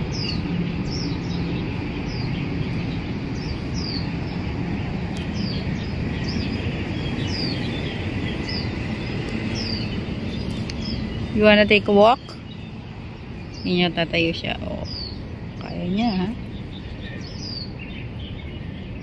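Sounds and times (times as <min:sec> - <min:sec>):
outdoor background hum: 0:00.0 - 0:19.0
small birds chirping: 0:00.0 - 0:19.0.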